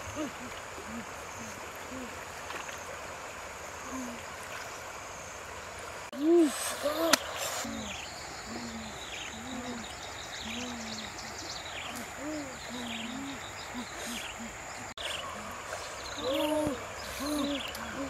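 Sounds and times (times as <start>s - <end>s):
river water: 0.0s - 18.0s.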